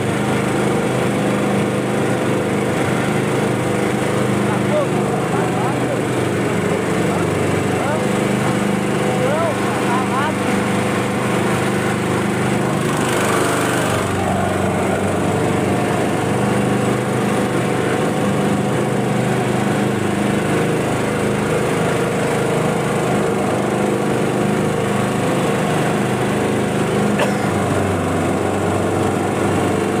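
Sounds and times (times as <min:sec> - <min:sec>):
small outboard motor running: 0:00.0 - 0:30.0.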